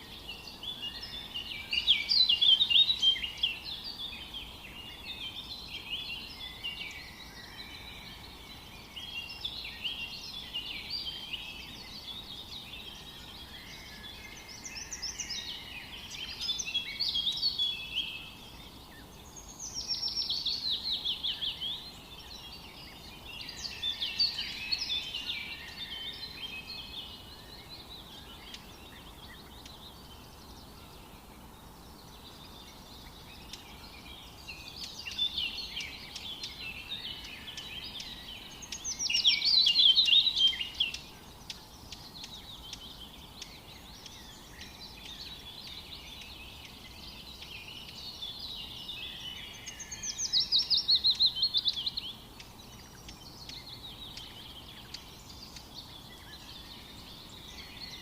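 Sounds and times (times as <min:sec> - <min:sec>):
faint background hiss: 0:00.0 - 0:58.0
songbird singing with trills: 0:00.0 - 0:58.0.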